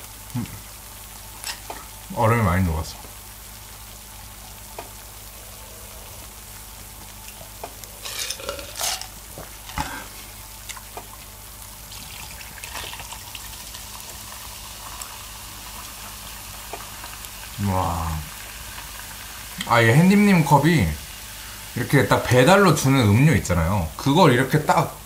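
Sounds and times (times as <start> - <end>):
food sizzling on a griddle: 0.0 - 25.0.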